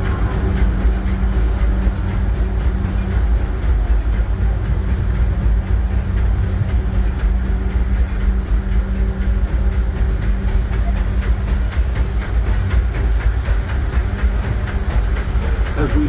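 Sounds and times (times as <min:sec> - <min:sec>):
low hum: 0:00.0 - 0:16.0
train car rumbling on track: 0:00.0 - 0:16.0.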